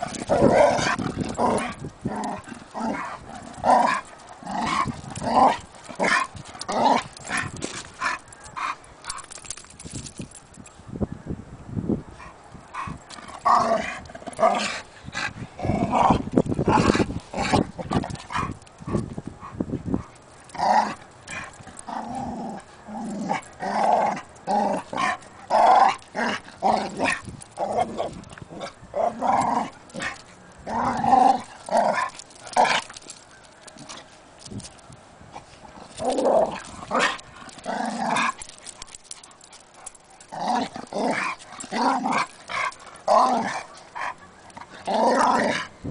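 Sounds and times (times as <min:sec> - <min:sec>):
dogs growling in play: 0:00.0 - 0:09.3, 0:12.8 - 0:19.1, 0:20.4 - 0:34.1, 0:35.6 - 0:45.8.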